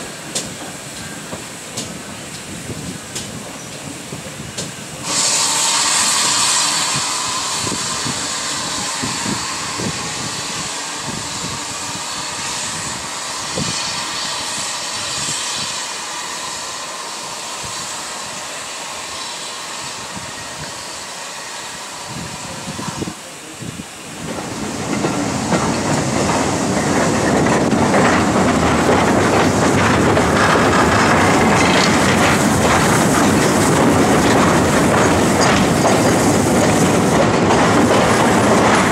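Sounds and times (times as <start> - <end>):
train wheels clicking on rails: 0.0 - 23.0, 24.0 - 38.9
steam hiss: 0.0 - 38.9.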